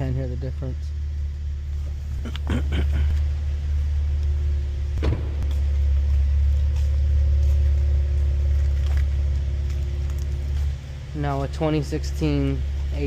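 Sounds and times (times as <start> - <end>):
car exhaust idling: 0.0 - 13.0.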